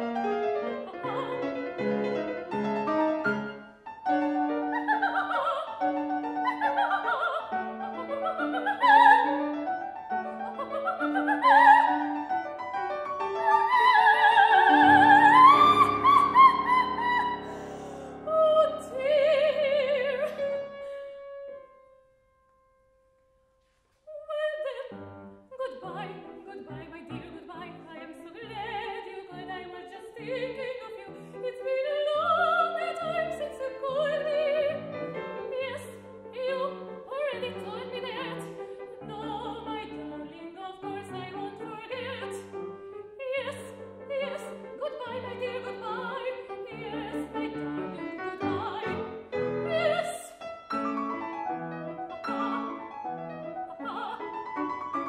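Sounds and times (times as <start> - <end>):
grand piano accompaniment: 0.0 - 55.0
woman singing opera: 0.5 - 2.4, 4.4 - 12.5, 13.2 - 21.2, 24.1 - 50.4, 53.6 - 55.0.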